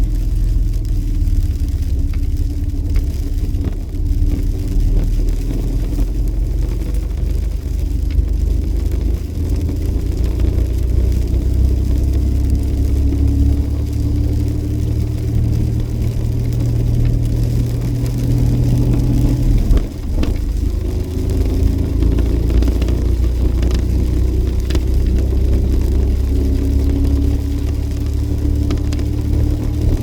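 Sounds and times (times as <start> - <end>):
car engine while driving: 0.0 - 30.0
road noise: 0.0 - 30.0.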